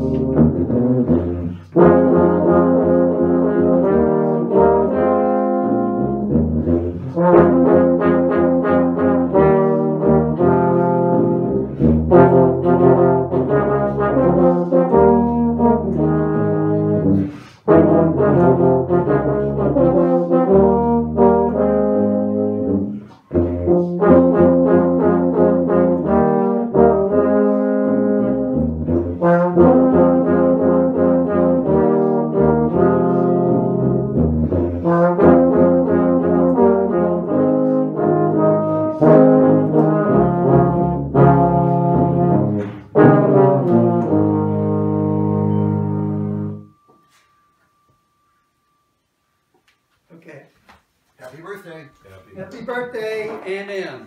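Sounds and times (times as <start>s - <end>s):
brass quartet with tubas playing: 0.0s - 47.2s.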